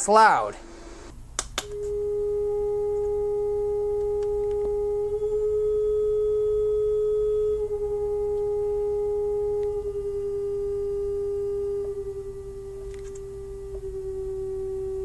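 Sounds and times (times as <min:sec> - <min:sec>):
frequency meter humming tone: 0:00.0 - 0:15.0.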